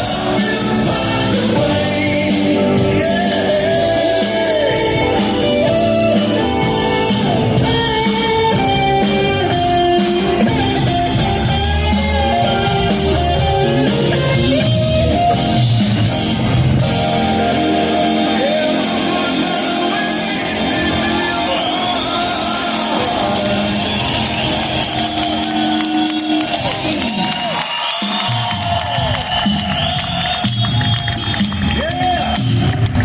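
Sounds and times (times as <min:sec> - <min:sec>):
melodic lead line: 0:00.0 - 0:27.3
rock band playing loudly: 0:00.0 - 0:33.0.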